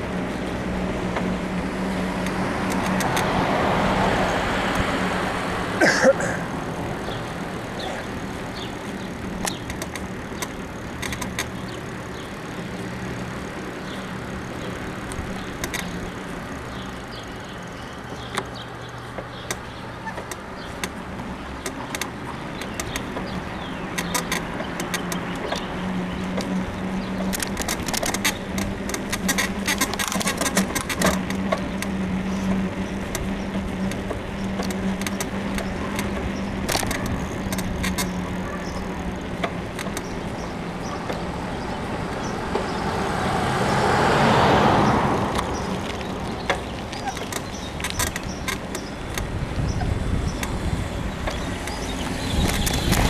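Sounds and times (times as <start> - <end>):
bicycle riding noise: 0.0 - 53.0
bicycle suspension creaks and clicks: 0.0 - 53.0
low motor vehicle hum: 0.0 - 53.0.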